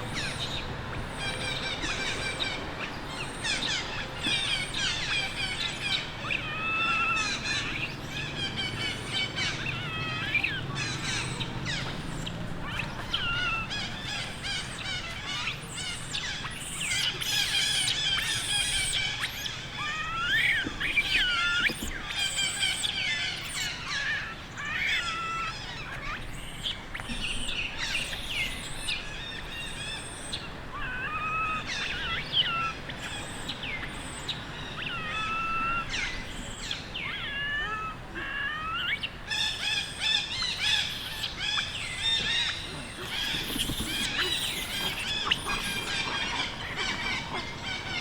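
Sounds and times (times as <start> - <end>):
baby monkey crying: 3.1 - 48.0.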